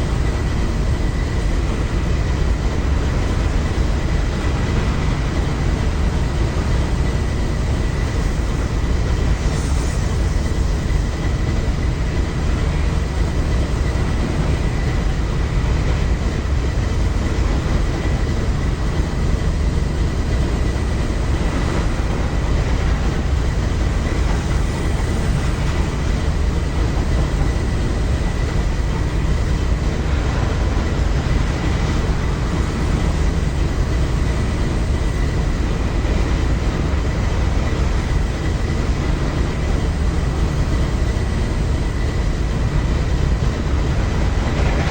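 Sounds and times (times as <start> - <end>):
train cars rolling by: 0.0 - 44.9.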